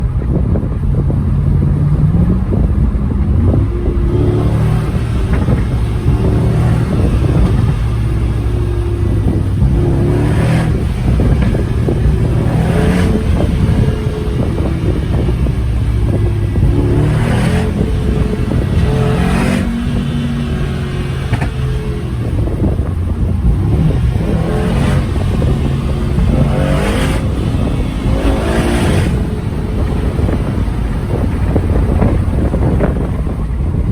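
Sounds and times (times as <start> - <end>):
car engine accelerating: 0.0 - 33.9
exhaust bursts: 2.1 - 33.0.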